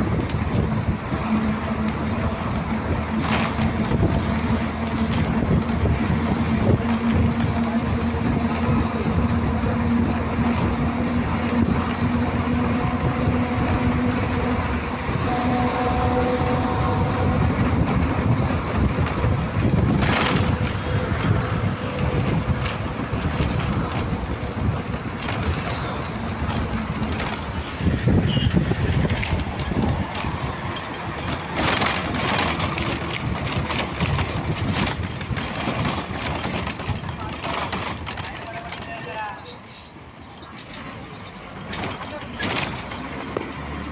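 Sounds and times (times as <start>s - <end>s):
bus passing whoosh: 0.0s - 38.1s, 40.8s - 43.9s
road and wind noise: 0.0s - 43.9s
traffic going by: 0.0s - 43.9s.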